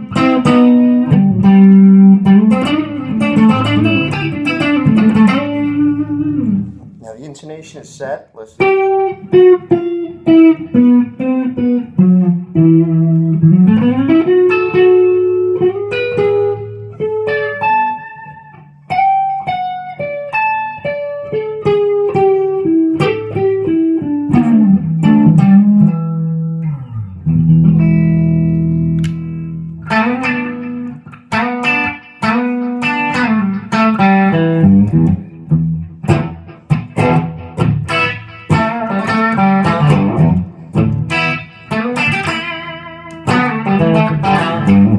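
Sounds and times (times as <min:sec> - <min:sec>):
electric guitar lead lines: 0:00.0 - 0:44.9.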